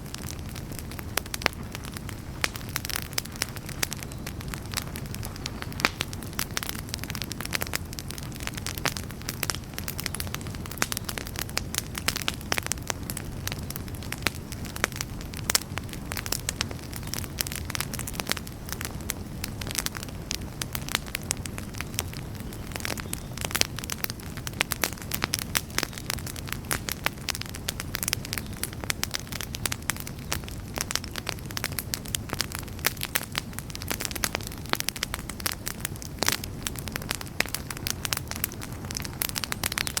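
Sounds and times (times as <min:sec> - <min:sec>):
campfire crackling and popping: 0:00.0 - 0:40.0
low rumble of flames: 0:00.0 - 0:40.0.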